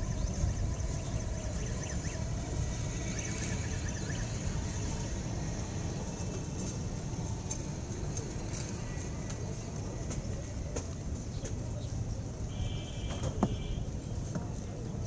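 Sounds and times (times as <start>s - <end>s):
street rumble: 0.0s - 15.0s.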